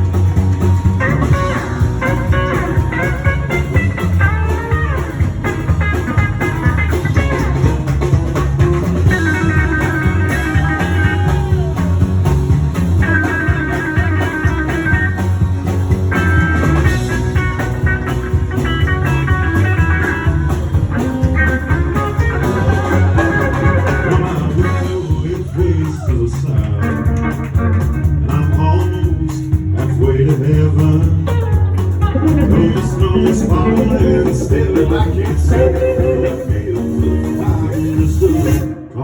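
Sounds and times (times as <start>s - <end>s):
lead guitar bending phrases: 0.0s - 25.9s, 26.6s - 39.0s
country band playing: 0.0s - 39.0s.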